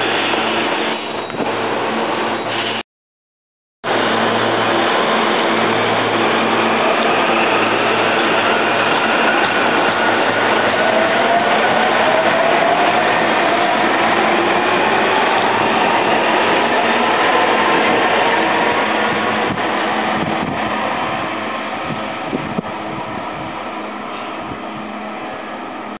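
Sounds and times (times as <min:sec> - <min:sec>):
train whine rising in pitch: 0:03.8 - 0:26.0
train running past: 0:03.9 - 0:26.0.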